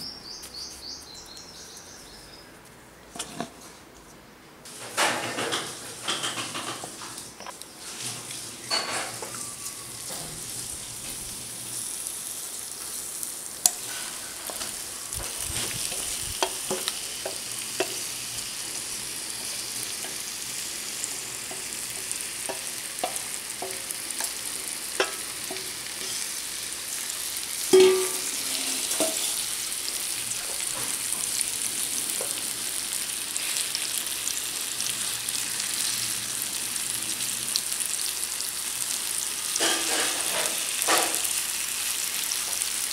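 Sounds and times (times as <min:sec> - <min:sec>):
slices sizzling in hot oil: 0:04.7 - 0:42.9.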